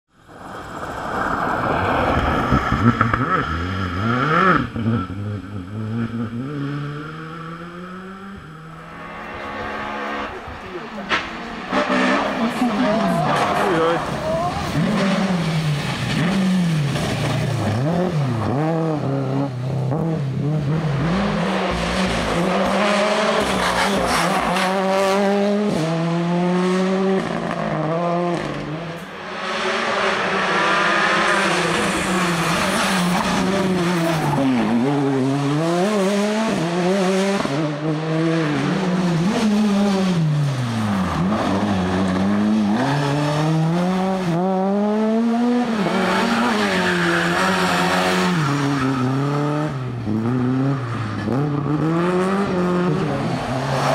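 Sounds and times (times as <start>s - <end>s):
rally car engines revving: 0.7s - 53.9s.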